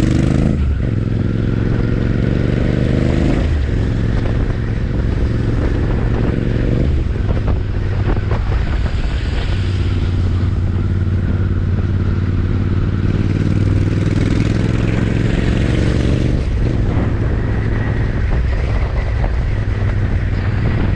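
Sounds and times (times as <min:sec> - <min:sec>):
motorcycle engine and exhaust: 0:00.0 - 0:20.9.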